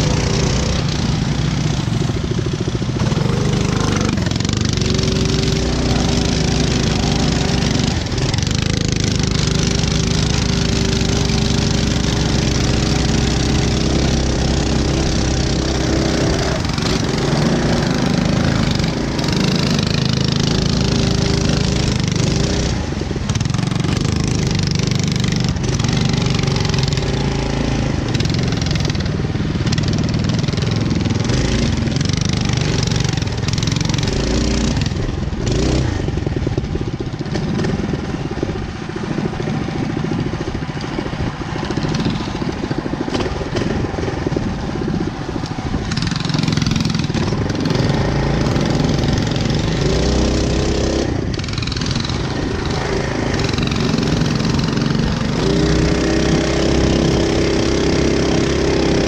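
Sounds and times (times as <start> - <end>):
mini bike engines running: 0.0 - 59.0.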